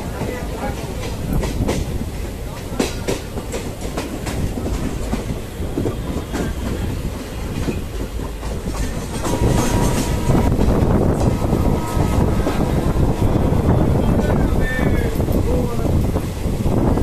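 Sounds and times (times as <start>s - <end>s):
train wheels clicking over joints: 0.0s - 17.0s.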